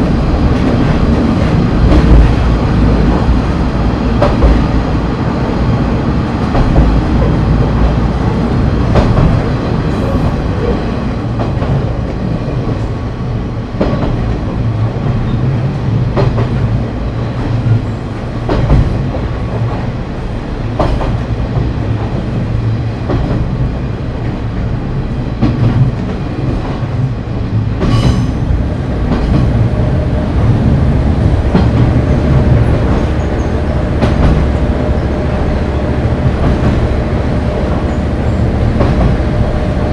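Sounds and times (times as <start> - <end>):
diesel railcar engine drone: 0.0 - 39.9.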